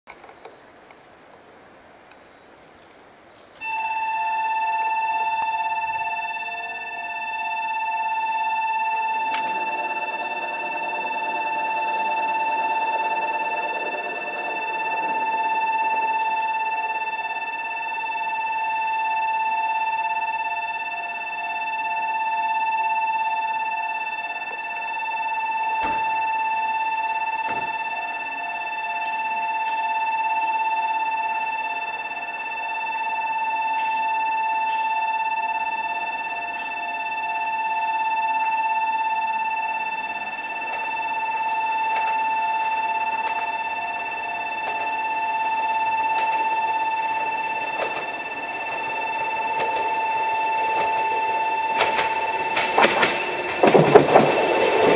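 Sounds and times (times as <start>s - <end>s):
level crossing bell dinging: 3.6s - 54.9s.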